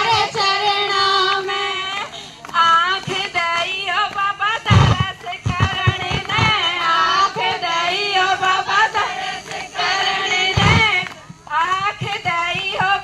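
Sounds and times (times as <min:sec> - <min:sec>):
woman singing devotional song: 0:00.0 - 0:13.0.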